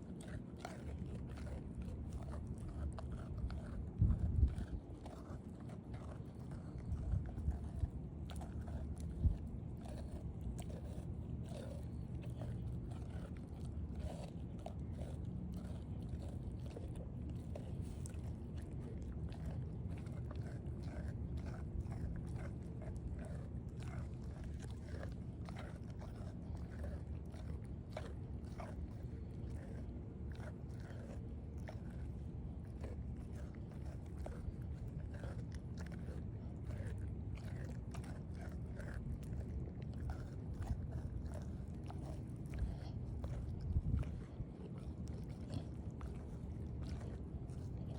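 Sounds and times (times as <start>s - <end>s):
puppy chewing meat: 0.0s - 47.9s.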